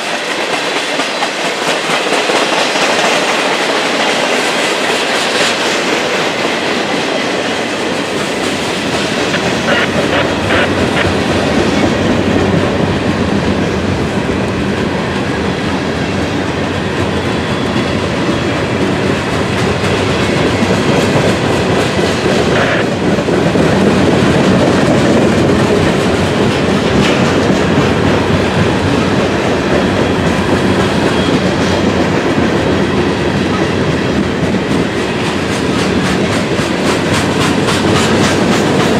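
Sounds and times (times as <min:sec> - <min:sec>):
train wheels clicking over rails: 0:00.0 - 0:38.9.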